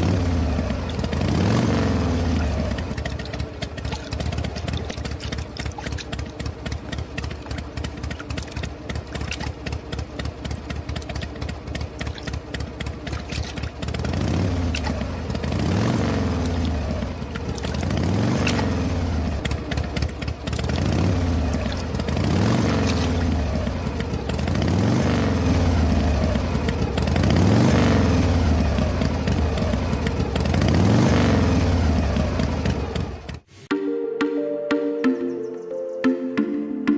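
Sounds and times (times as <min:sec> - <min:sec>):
model diesel engine rattling: 0:00.0 - 0:31.0.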